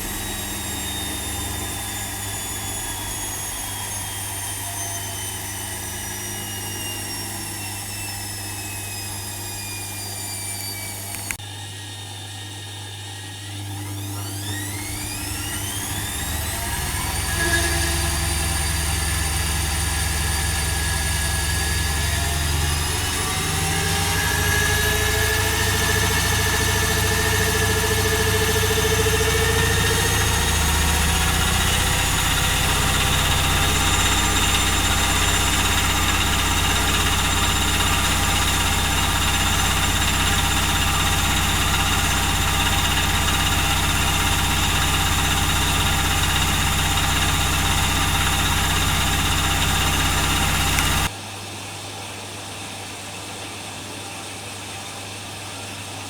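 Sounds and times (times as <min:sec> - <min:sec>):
washing machine motor whine: 0:00.0 - 0:51.2.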